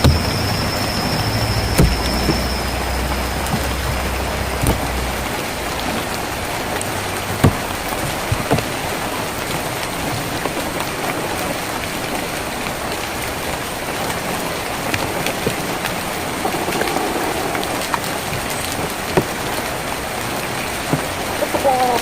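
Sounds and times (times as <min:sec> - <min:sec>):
rain drumming on a tin roof: 0:00.0 - 0:22.0.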